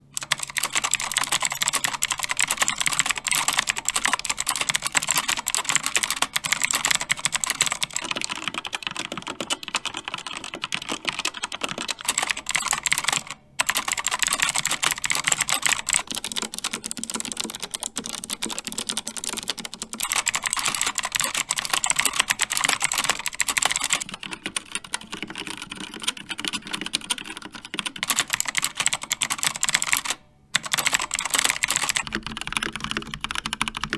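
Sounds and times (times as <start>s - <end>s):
typing on mechanical keyboards: 0.1s - 33.9s.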